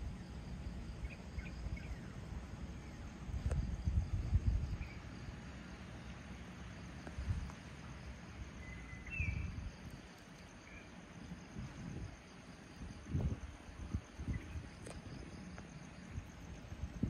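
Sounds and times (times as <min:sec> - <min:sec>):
background hiss: 0:00.0 - 0:17.0
insects calling: 0:00.0 - 0:17.0.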